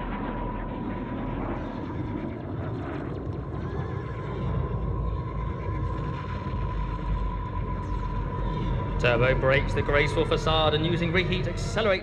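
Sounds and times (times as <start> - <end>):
jet engine rumble and whine: 0.0 - 12.0.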